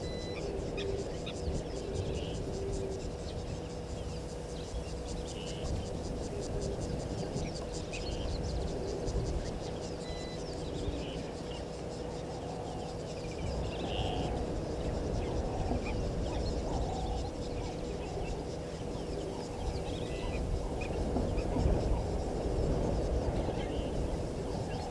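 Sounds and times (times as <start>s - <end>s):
birds chirping: 0.0s - 24.9s
faint steady hum: 0.0s - 24.9s
low rumbling background noise: 0.0s - 24.9s.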